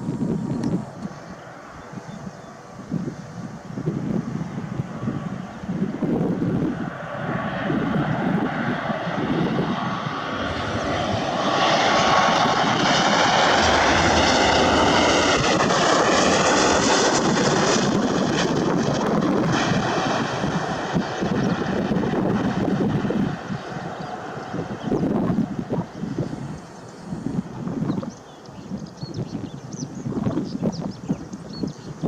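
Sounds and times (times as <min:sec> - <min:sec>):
airliner passing close: 0:00.0 - 0:28.9
wind buffeting microphone: 0:00.0 - 0:32.0.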